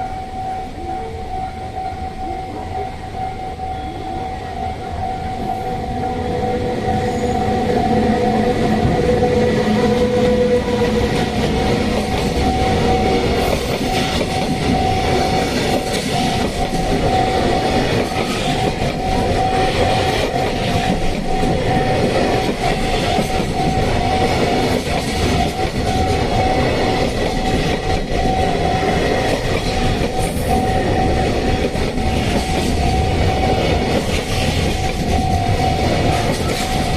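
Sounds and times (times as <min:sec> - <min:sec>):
freight train rumbling: 0:00.0 - 0:36.9
level crossing warning bell: 0:00.0 - 0:36.9
wheels clattering on rail joints: 0:05.2 - 0:36.9.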